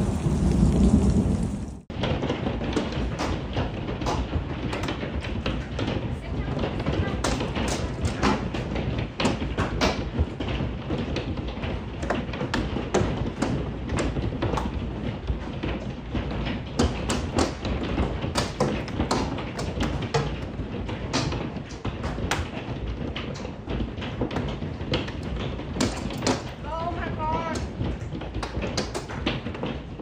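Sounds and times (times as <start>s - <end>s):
hailstones striking hard surfaces: 0.0s - 30.0s.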